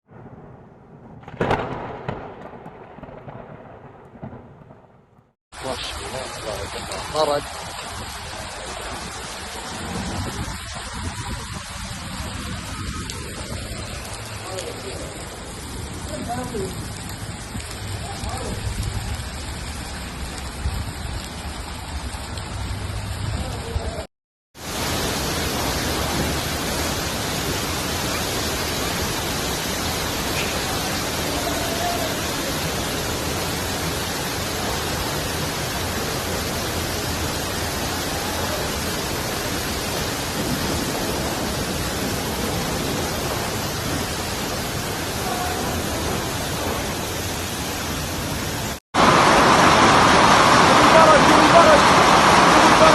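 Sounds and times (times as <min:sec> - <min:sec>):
heavy rain pouring: 0:05.5 - 0:52.9.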